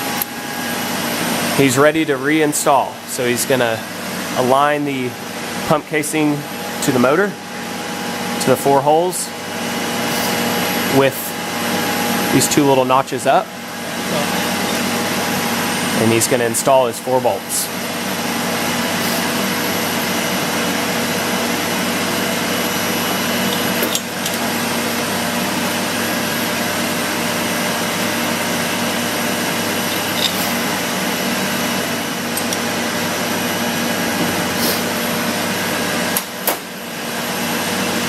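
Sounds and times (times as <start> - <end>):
fan humming: 0.0 - 38.0.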